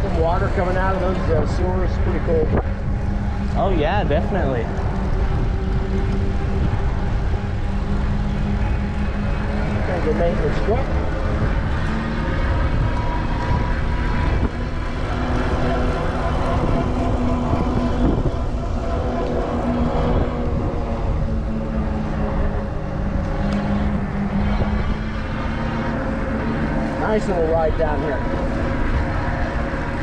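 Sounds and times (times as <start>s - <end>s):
electric motor whine: 0.0s - 30.0s
wind buffeting microphone: 0.0s - 30.0s.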